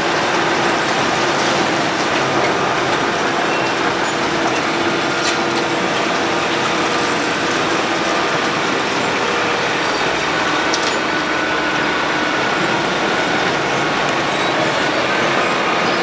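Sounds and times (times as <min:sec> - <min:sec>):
road milling machine running: 0:00.0 - 0:16.0.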